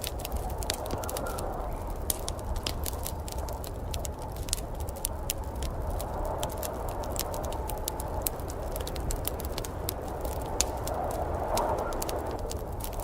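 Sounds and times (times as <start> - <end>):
wood fire crackling in fireplace: 0.0 - 13.0.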